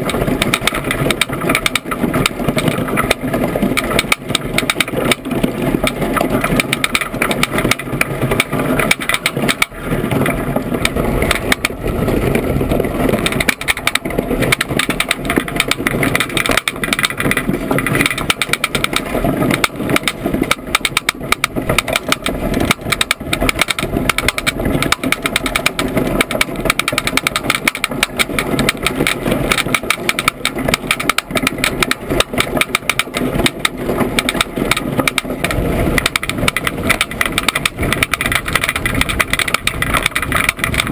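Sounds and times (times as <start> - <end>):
iceboat runners rattling on ice: 0.0 - 40.9
wind noise: 0.0 - 40.9.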